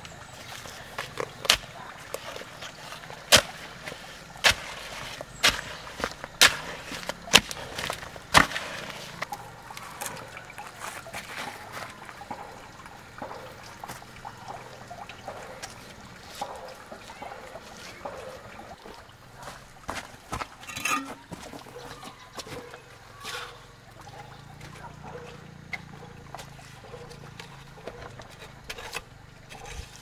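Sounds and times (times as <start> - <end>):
hoe scraping wet mortar: 0.0 - 12.1, 15.3 - 30.0
wet mortar sloshing: 0.0 - 30.0.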